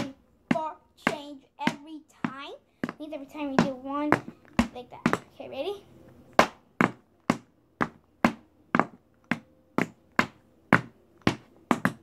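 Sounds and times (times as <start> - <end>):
tap shoes on wooden board: 0.0 - 5.4, 6.4 - 12.0.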